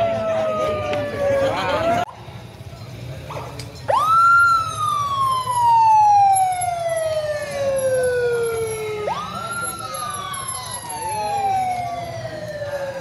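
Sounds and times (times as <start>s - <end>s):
motorcycle siren wailing: 0.0s - 2.1s, 3.9s - 13.0s.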